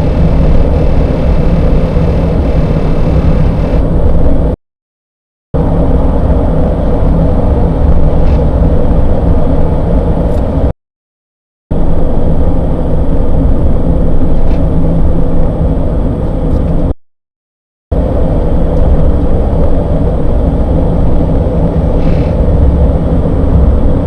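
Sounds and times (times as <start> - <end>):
low droning engine rumble: 0.0 - 4.6, 5.6 - 10.7, 11.7 - 16.9, 17.9 - 24.0.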